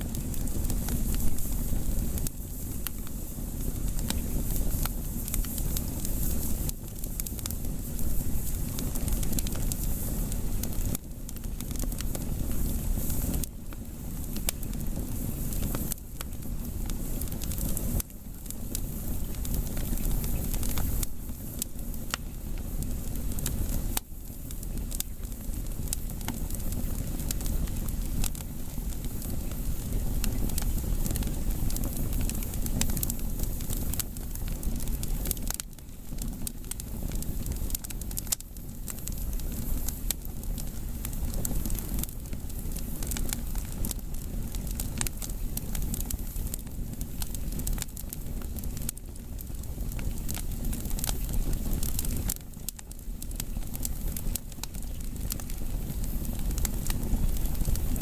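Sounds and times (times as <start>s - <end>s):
firewood crackling and popping: 0.0s - 58.0s
low fire rumble: 0.0s - 58.0s.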